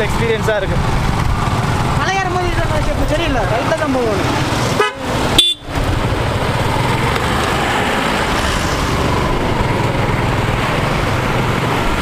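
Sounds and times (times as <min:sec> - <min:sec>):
motorcycle road noise rumble: 0:00.0 - 0:12.0.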